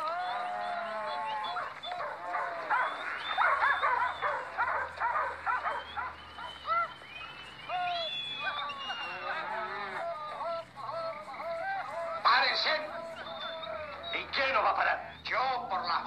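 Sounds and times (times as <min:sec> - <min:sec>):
dog barking and yelping: 0:00.0 - 0:07.0, 0:07.7 - 0:14.7.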